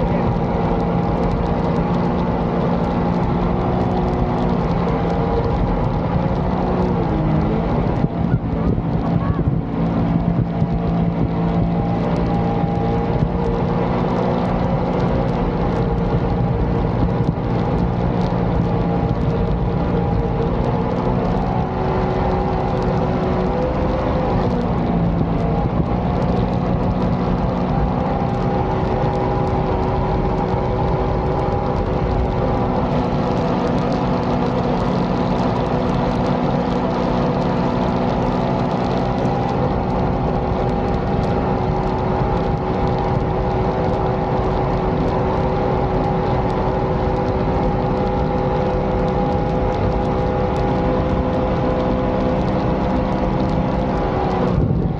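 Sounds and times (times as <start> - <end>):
boat engine running: 0.0 - 54.9
water rushing along hull: 0.0 - 54.9.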